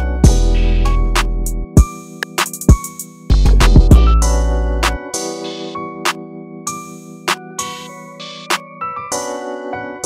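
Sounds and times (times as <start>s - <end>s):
keyboard chords: 0.0s - 10.0s.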